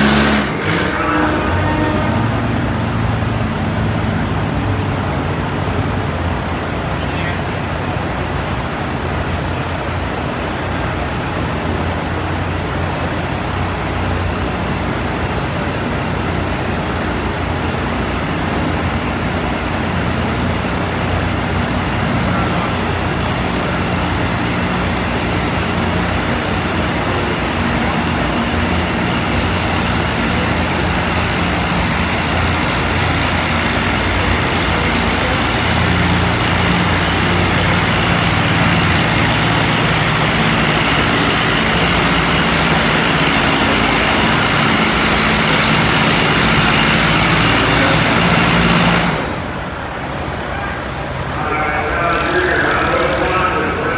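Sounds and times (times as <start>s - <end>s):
tractor engine running under load: 0.0s - 53.9s.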